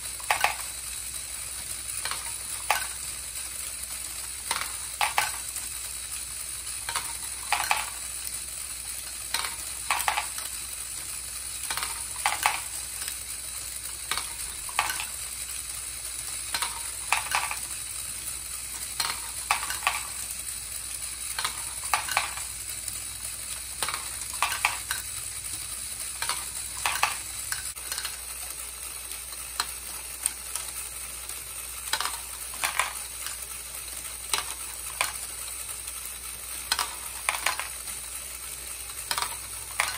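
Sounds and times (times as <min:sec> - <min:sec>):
plastic balls clacking: 0:00.0 - 0:39.9.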